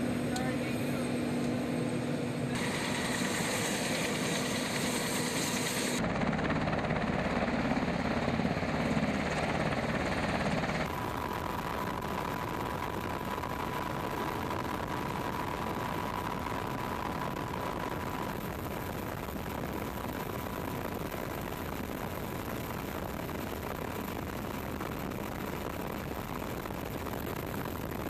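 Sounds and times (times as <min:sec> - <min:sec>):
helicopter engines and rotor: 0:00.0 - 0:28.0.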